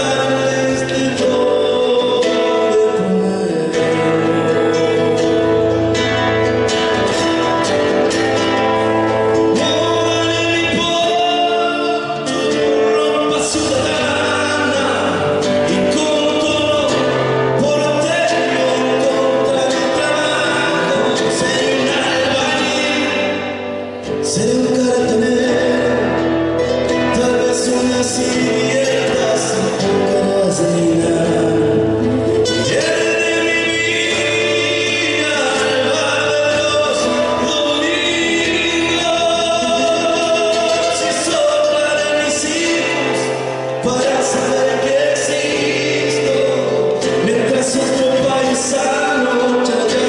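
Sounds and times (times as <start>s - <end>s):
folk singing: 0.0s - 50.0s.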